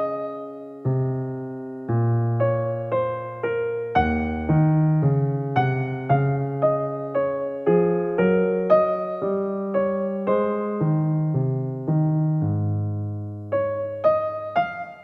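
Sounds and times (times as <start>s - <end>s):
gentle electric piano: 0.0s - 15.0s.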